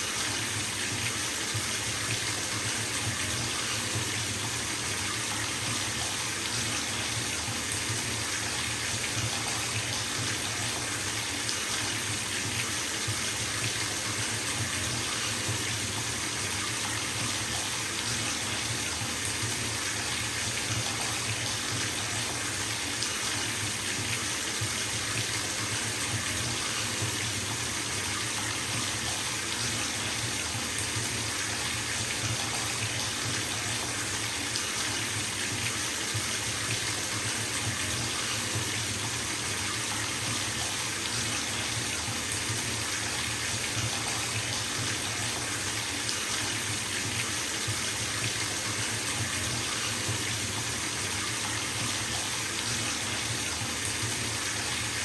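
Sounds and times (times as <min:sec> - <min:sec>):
water pouring into bathtub: 0:00.0 - 0:55.0.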